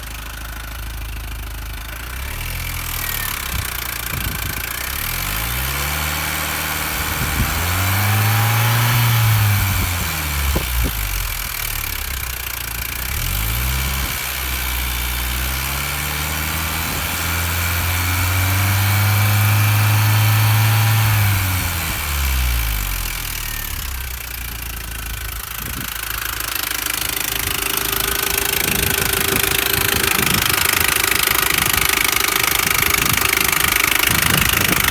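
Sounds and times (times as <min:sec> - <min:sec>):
car engine revving: 0:00.0 - 0:34.9
engine tapping rattle: 0:00.0 - 0:34.9.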